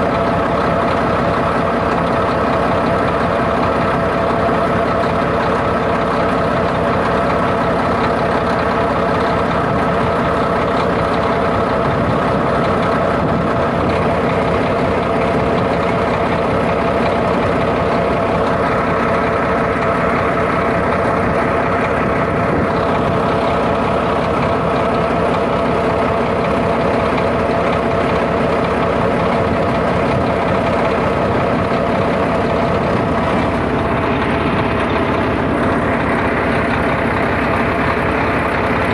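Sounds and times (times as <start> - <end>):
diesel engine running: 0.0 - 38.9
steady whine: 0.0 - 38.9.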